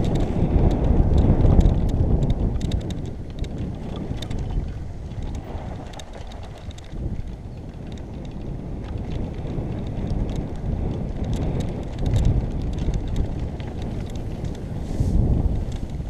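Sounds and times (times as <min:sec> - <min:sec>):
bike clicks and rattles: 0:00.0 - 0:16.0
bike tyres rolling on dirt: 0:00.0 - 0:16.0
wind buffeting microphone: 0:00.0 - 0:16.0.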